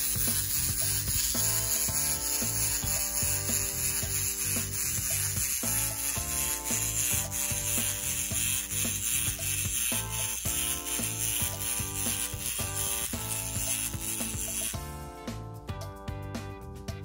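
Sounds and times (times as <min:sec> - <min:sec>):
toy motor grinding whir: 0:00.0 - 0:15.1
background music: 0:00.0 - 0:17.0.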